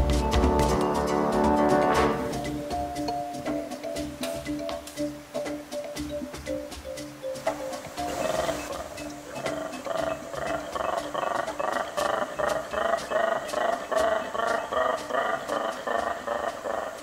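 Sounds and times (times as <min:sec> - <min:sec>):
monkey pulsing territorial call: 0:00.2 - 0:17.0.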